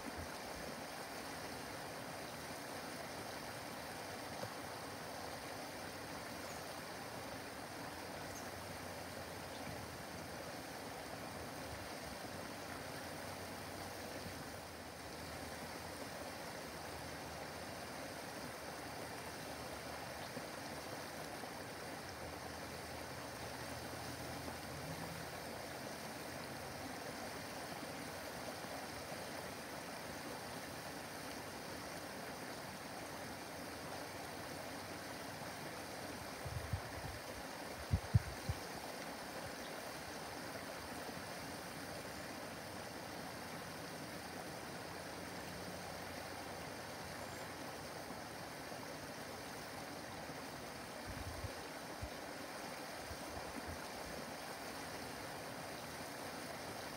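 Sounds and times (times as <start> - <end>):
waterfall splashing into pond: 0.0 - 56.9.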